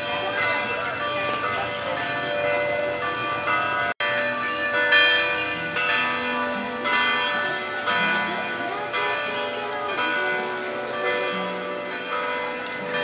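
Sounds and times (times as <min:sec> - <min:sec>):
bell-like chimes music: 0:00.0 - 0:13.0.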